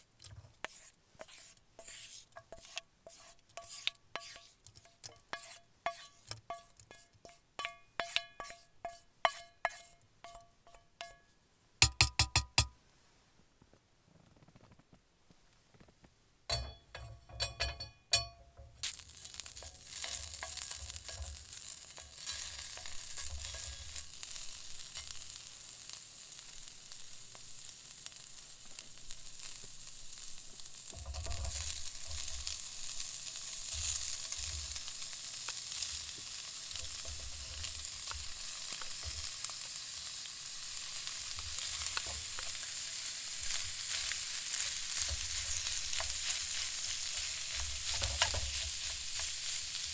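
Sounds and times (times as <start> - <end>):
food sizzling in a pan: 0.6 - 11.2, 16.6 - 49.9.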